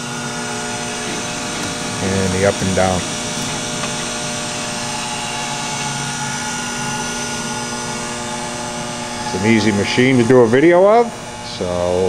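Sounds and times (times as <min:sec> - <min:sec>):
grinder motor humming: 0:00.0 - 0:12.0.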